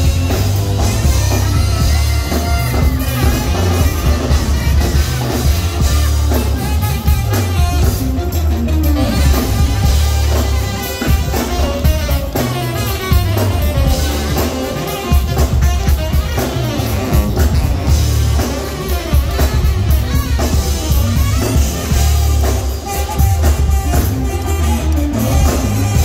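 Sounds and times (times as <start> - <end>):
live band playing up-tempo music: 0.0 - 26.0
saxophone lead line: 0.0 - 26.0.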